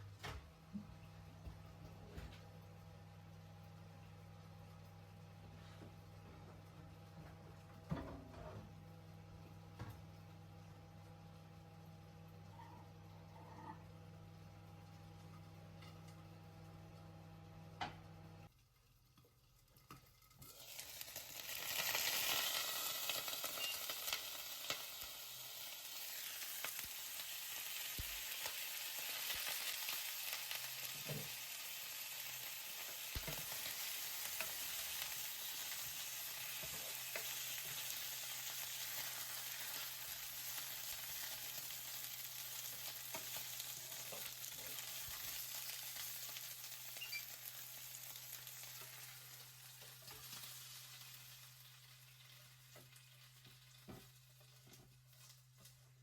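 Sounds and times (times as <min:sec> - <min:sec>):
chicken sizzling in a pan: 0:02.8 - 0:56.0.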